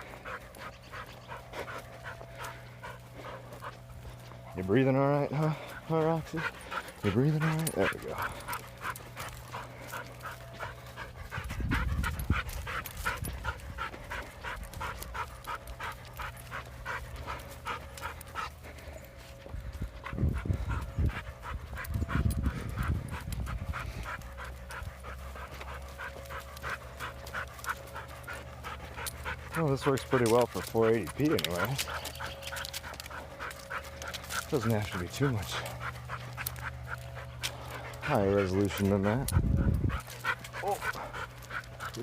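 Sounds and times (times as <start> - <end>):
dog panting: 0.0 - 42.0.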